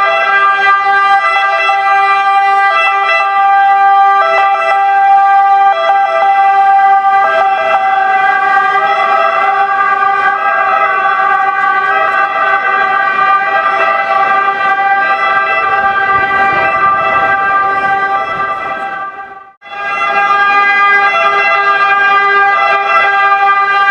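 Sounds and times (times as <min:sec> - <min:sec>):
ambulance siren wailing: 0:00.0 - 0:23.9.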